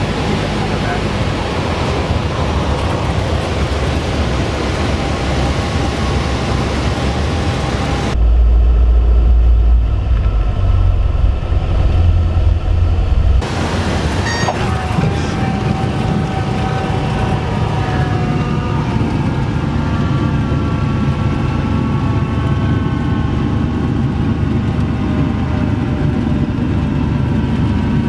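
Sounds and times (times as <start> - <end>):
airplane engine and propeller: 0.0 - 28.0
muffled rumble of wind and engine: 0.0 - 28.0.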